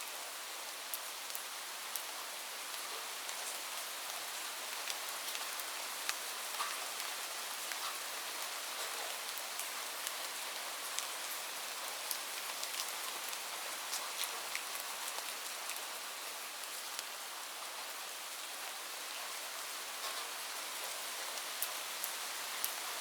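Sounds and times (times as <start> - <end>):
raindrops ticking on a surface: 0.7 - 23.0.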